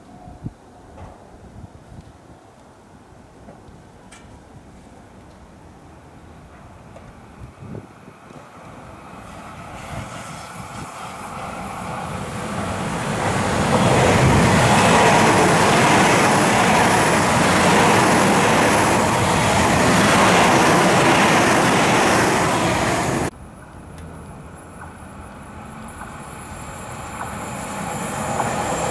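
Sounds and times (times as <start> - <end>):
electric train passing: 5.6 - 28.9.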